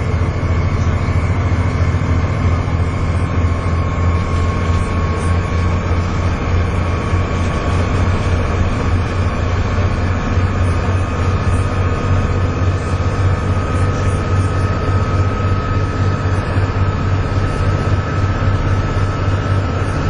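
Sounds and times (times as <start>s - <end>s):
bus diesel engine droning: 0.0s - 20.0s
high whine: 0.0s - 20.0s.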